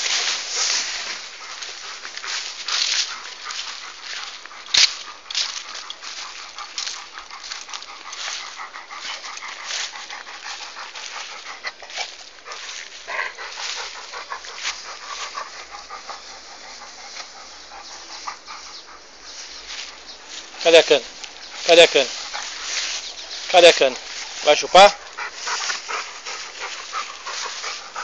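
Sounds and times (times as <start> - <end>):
dog crunching and chewing: 0.0 - 19.0, 19.8 - 28.0.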